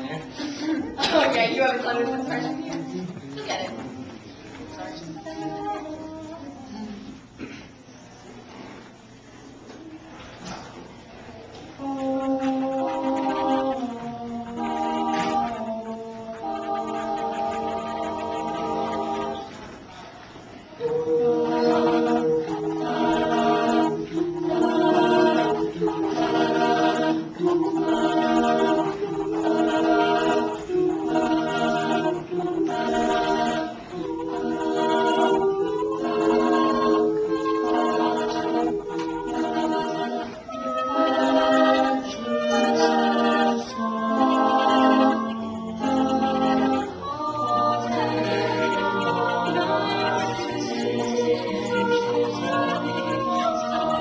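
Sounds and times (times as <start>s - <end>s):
a cappella group singing: 0.0s - 7.6s, 11.6s - 54.0s.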